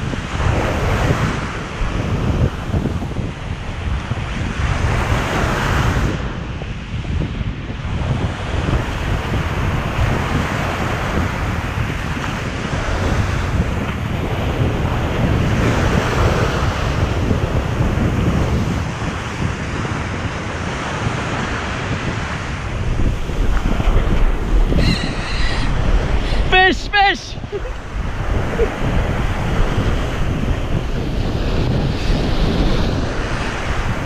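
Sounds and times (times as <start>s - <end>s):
ocean surf on beach: 0.0s - 34.0s
wind buffeting microphone: 0.0s - 34.0s.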